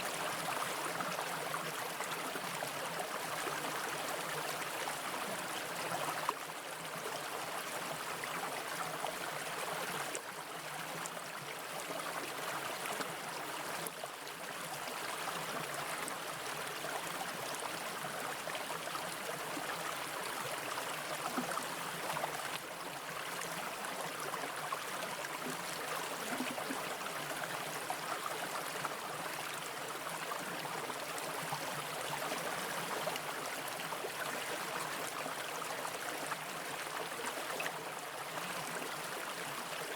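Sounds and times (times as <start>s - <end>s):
brook water over rocks: 0.0s - 39.9s.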